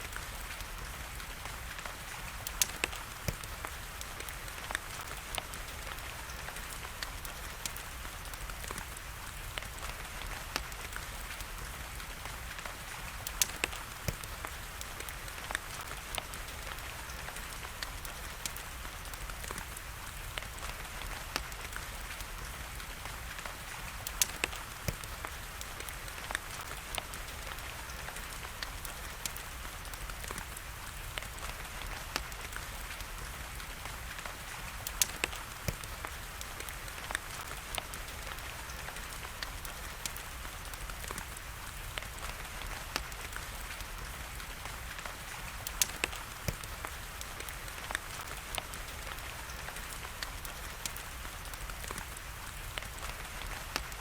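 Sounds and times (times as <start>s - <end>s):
rain patter: 0.0s - 54.0s
wood fire crackling: 0.0s - 54.0s.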